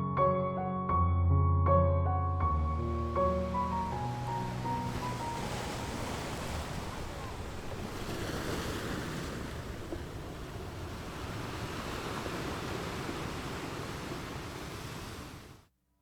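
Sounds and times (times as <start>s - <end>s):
wind: 2.6s - 15.7s
sea surf washing onto shore: 2.8s - 15.6s.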